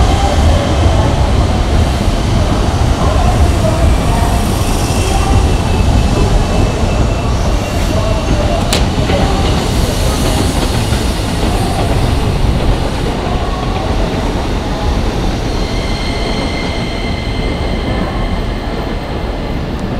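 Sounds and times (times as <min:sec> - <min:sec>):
train wheels rumbling and clattering: 0:00.0 - 0:19.9.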